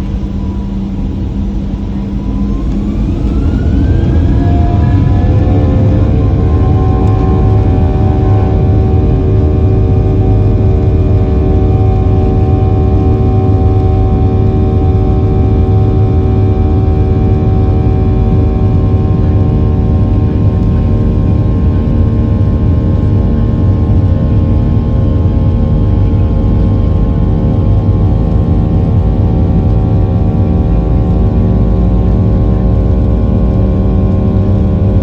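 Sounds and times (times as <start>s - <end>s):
jet engine rumble: 0.0s - 35.0s
jet engine whining tones: 0.0s - 35.0s.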